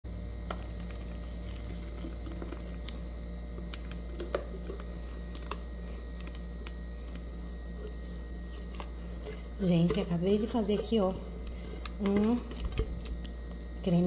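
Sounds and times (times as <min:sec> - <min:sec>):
steady low hum: 0:00.0 - 0:14.0
cream squelching plops: 0:00.5 - 0:13.7.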